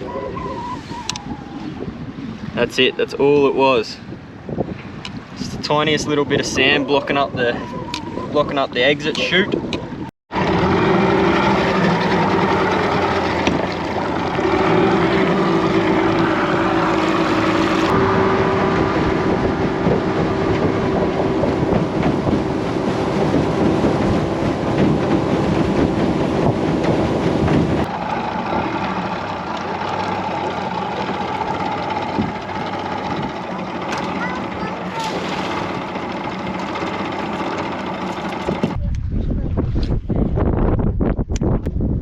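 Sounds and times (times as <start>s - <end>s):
outboard motor running: 4.4s - 38.8s.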